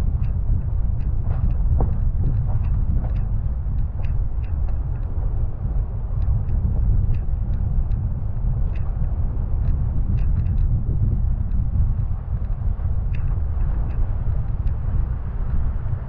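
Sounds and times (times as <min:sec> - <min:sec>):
wind and road noise rumble: 0:00.0 - 0:16.0
faint ticks: 0:00.1 - 0:15.8.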